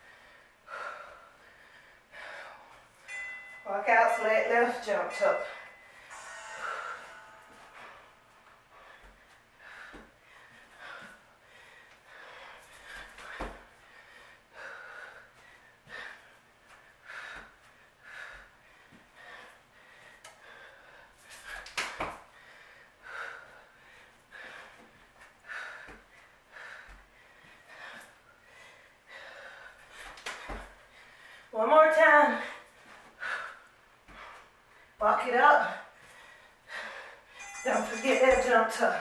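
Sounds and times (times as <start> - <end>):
woman breathing hard: 0.0 - 3.6, 5.3 - 31.5, 32.4 - 35.0, 35.6 - 38.4.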